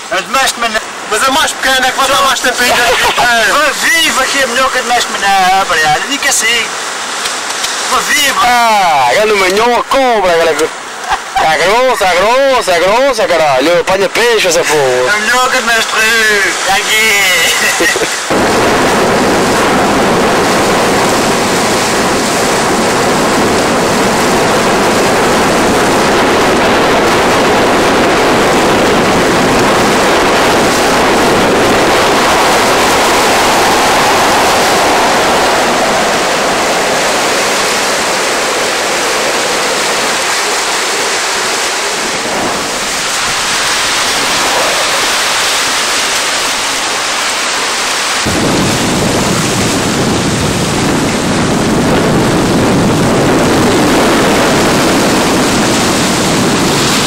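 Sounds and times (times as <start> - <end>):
surf washing against rocks: 0.0 - 57.0.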